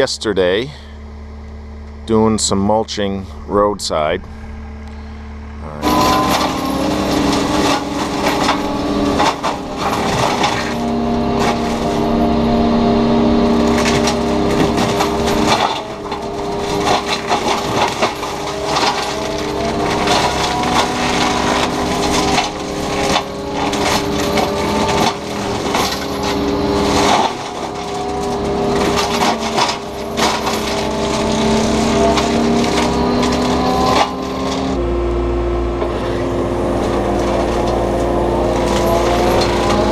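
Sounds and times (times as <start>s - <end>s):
excavator engine hum: 0.0s - 39.9s
mulching rotor cracking brush: 3.6s - 34.8s, 35.8s - 39.9s.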